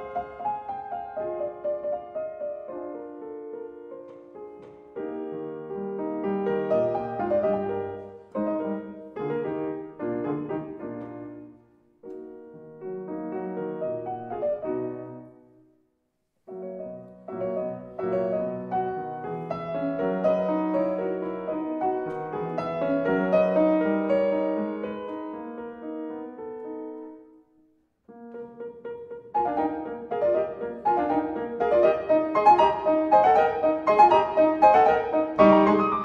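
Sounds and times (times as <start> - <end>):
gentle piano music: 0.0 - 15.8, 16.5 - 36.0.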